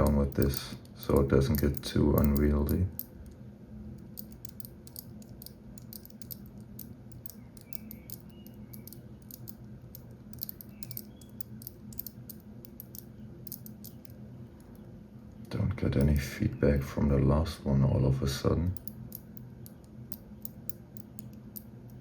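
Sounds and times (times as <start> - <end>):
padlock number wheels clicking: 0.0 - 3.4, 4.0 - 16.9, 18.6 - 22.0
steady low hum: 0.0 - 22.0.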